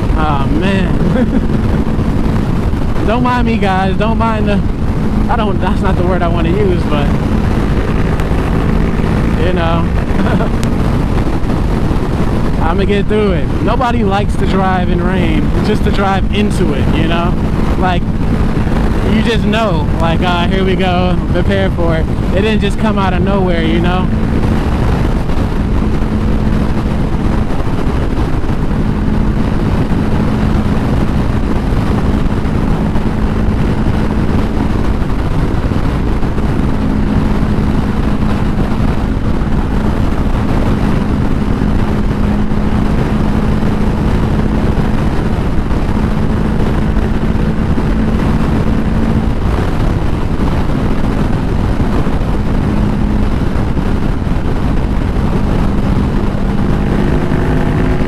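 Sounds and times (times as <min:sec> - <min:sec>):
motorcycle engine droning: 0:00.0 - 0:58.0
wind rushing on microphone: 0:00.0 - 0:58.0.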